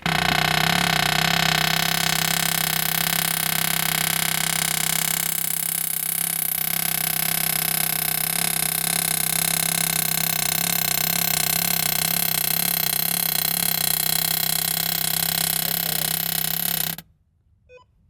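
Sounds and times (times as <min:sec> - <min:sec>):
motor droning steadily: 0:00.0 - 0:17.0.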